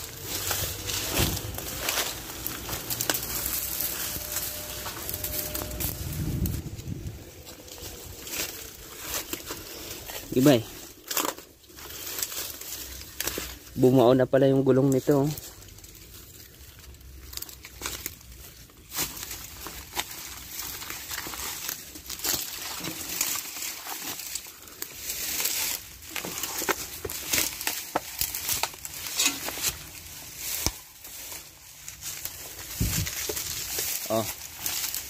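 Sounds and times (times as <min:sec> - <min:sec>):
dry leaves rustling and crackling: 0:00.0 - 0:35.0.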